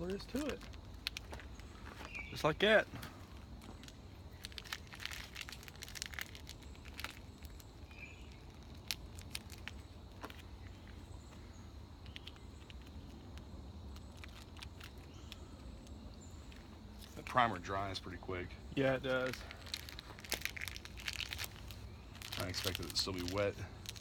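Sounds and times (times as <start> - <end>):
faint clicks and crinkling: 0.0 - 24.0.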